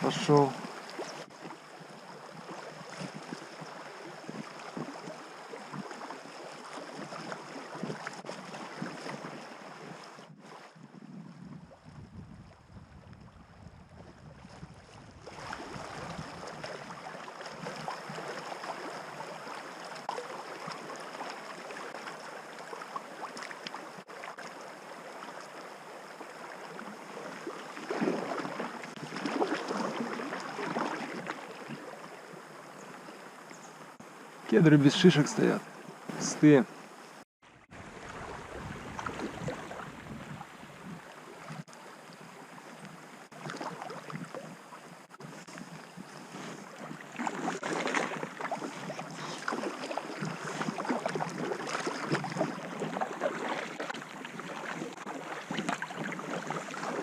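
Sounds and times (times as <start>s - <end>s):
river water rushing and splashing: 0.0s - 10.8s, 15.2s - 57.0s.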